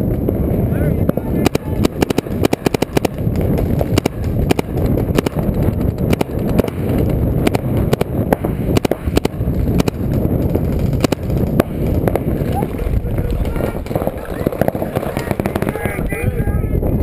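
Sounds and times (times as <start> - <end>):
sharp pops of paintball fire: 0.0 - 16.2
wind rumble on microphone: 0.0 - 17.0.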